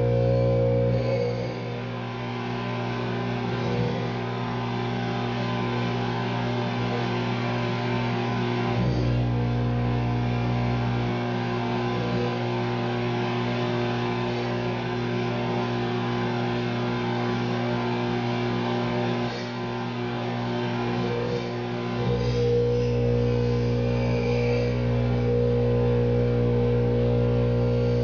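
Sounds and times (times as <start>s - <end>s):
microwave oven electrical buzz: 0.0s - 28.0s.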